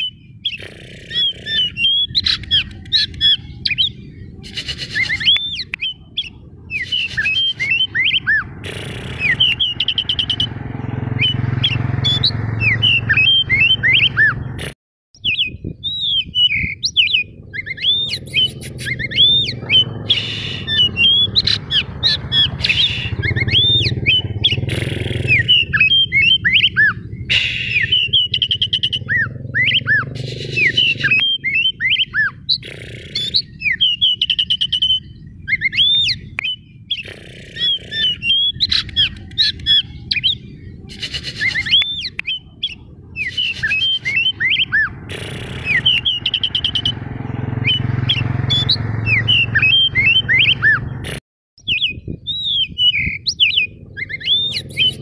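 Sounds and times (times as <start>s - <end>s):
bird singing whistled notes: 0.0s - 8.5s, 9.1s - 14.5s, 15.2s - 45.0s, 45.6s - 50.9s, 51.6s - 55.0s
harsh chattering bird calls: 0.0s - 55.0s.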